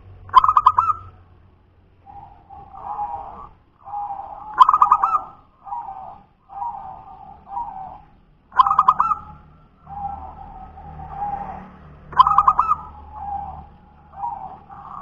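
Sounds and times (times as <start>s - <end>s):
dove cooing: 0.3s - 1.3s, 2.0s - 15.0s.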